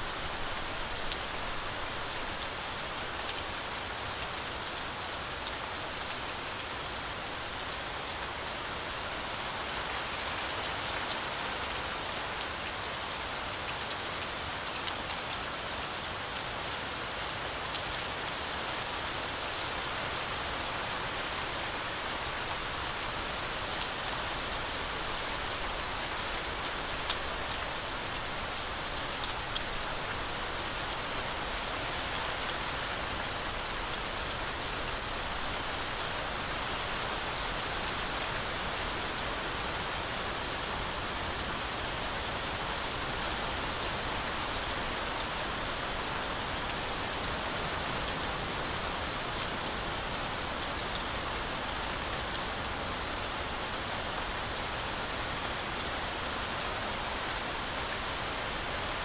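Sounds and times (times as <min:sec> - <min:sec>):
heavy rain on forest canopy: 0:00.0 - 0:59.0.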